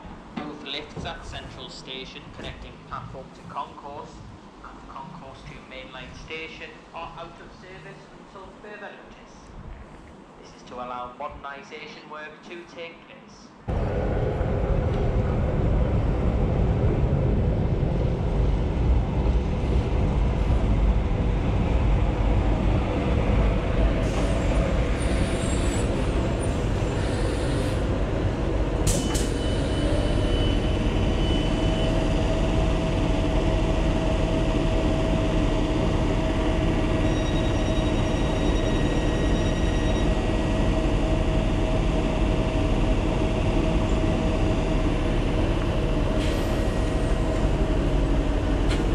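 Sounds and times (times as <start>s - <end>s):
train wheels rumbling on rails: 0.0s - 6.3s, 13.7s - 48.9s.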